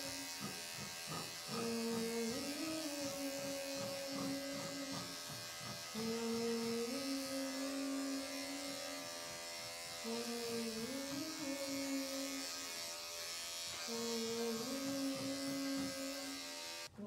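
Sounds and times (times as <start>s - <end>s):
electric dog clipper humming: 0.0s - 17.0s.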